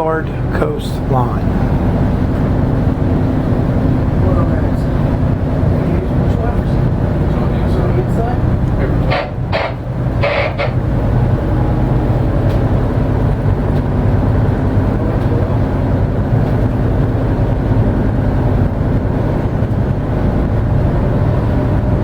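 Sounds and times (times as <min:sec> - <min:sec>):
boat engines droning: 0:00.0 - 0:22.0
water noise: 0:00.0 - 0:22.0
wind noise: 0:00.2 - 0:22.0.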